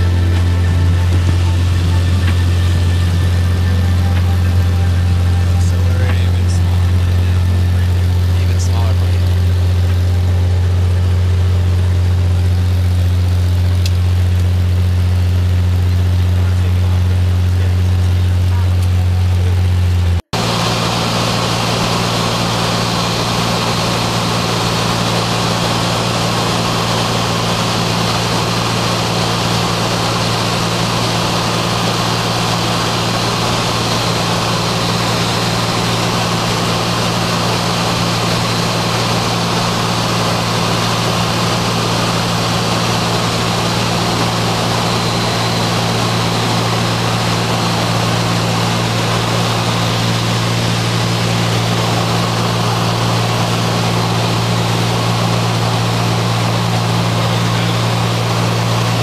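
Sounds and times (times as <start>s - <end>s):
propeller plane engine hum: 0.0s - 59.0s.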